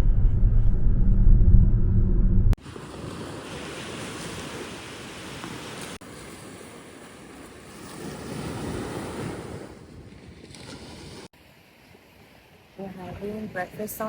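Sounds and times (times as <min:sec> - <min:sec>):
wind on microphone: 0:00.0 - 0:11.3
ocean surf: 0:02.6 - 0:14.0.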